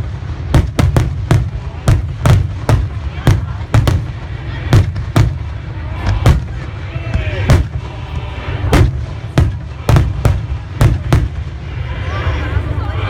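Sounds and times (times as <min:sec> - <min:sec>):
fireworks bangs: 0:00.0 - 0:12.4
low rumble of explosions: 0:00.0 - 0:13.0.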